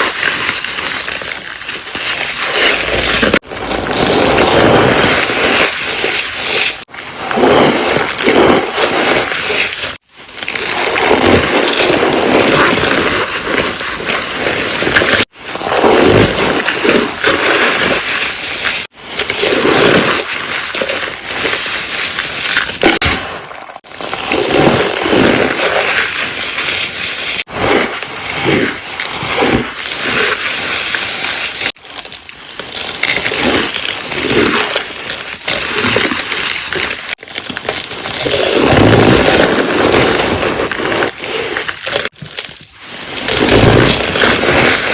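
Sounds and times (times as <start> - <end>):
chalk crunching in hand: 0.0 - 44.9.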